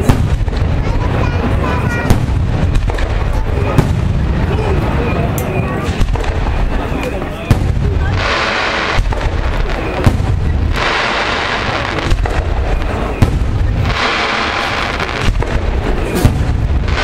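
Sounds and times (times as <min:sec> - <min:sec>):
small firework pops: 0:00.0 - 0:01.1, 0:01.9 - 0:04.2, 0:05.3 - 0:14.2, 0:14.8 - 0:17.0
firework bangs: 0:00.0 - 0:17.0
hissing crackle: 0:00.0 - 0:17.0.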